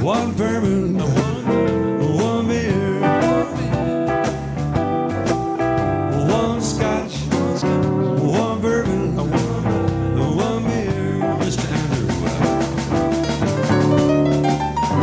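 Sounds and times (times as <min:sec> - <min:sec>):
blues guitar with bending notes: 0:00.0 - 0:15.0
drums: 0:00.0 - 0:15.0.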